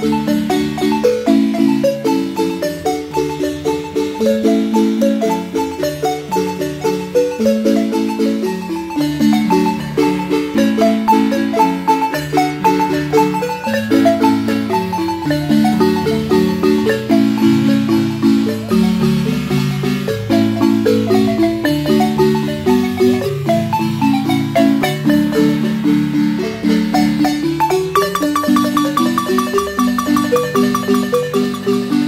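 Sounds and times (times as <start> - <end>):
marimba ensemble playing: 0.0 - 32.0.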